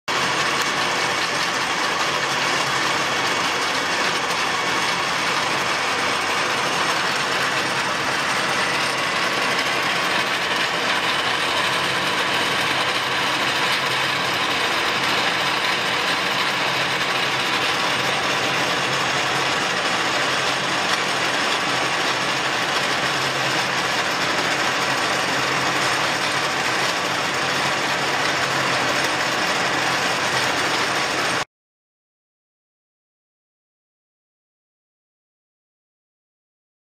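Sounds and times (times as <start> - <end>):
lathe running with mechanical whir: 0.1 - 31.4.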